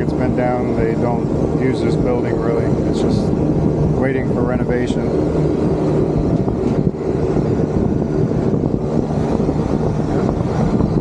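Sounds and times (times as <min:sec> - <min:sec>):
air conditioning unit drone: 0:00.0 - 0:11.0.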